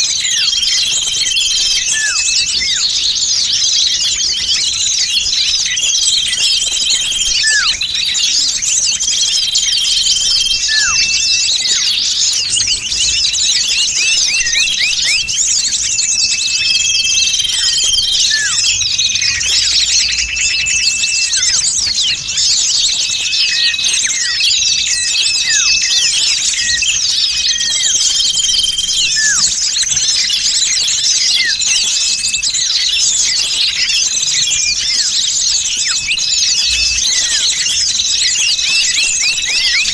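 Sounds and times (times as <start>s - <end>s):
songbirds chirping and trilling: 0.0s - 39.9s
whistled bird notes: 0.0s - 39.9s.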